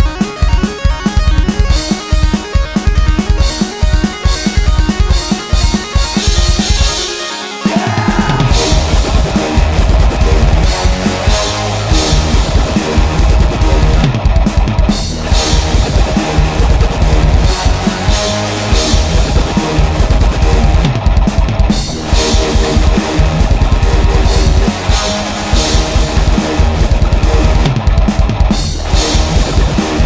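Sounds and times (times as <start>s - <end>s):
hardcore electronic dance music: 0.0s - 30.0s.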